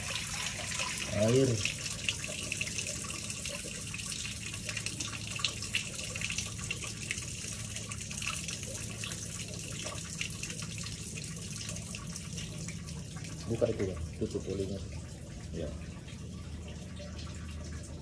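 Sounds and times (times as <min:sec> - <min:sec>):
low machinery hum: 0:00.0 - 0:18.0
water pouring and splashing: 0:00.0 - 0:18.0.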